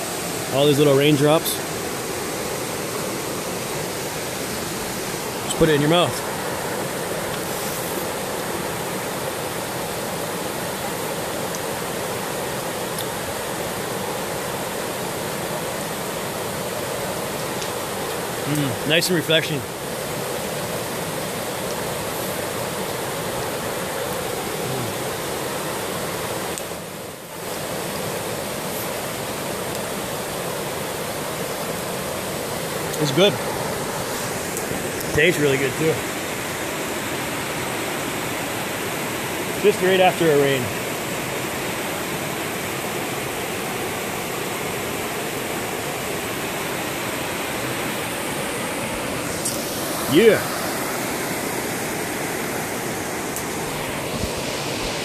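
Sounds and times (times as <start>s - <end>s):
river rapids rushing: 0.0s - 55.0s
waterfall roaring: 0.0s - 55.0s.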